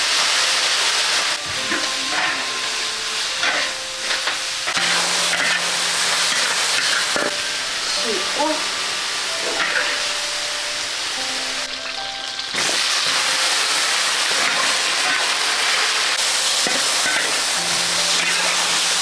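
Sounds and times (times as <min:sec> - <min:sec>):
faint background music: 0:00.0 - 0:19.0
food sizzling in a wok: 0:00.0 - 0:19.0.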